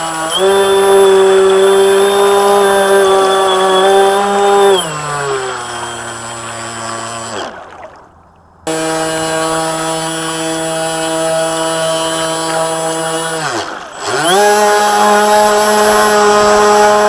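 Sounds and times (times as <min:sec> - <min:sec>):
electric motor whining: 0:00.0 - 0:07.7, 0:08.7 - 0:17.0.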